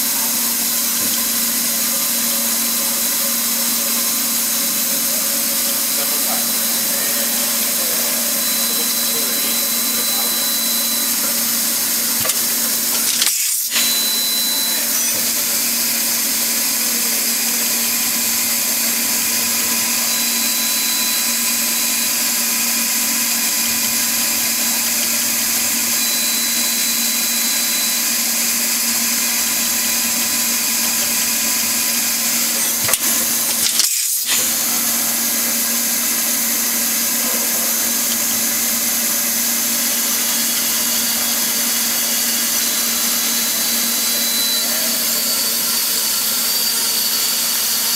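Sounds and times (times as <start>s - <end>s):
machining center whirring: 0.0s - 47.9s.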